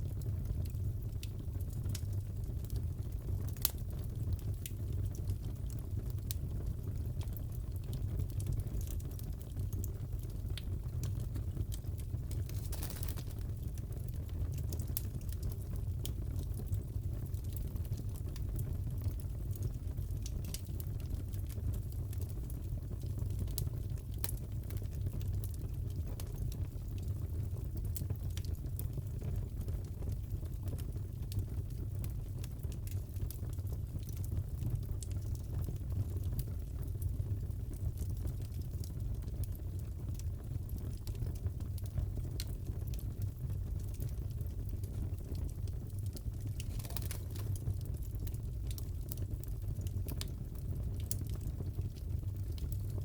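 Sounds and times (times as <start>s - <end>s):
fire popping and snapping: 0.0s - 53.0s
fire rumbling: 0.0s - 53.0s.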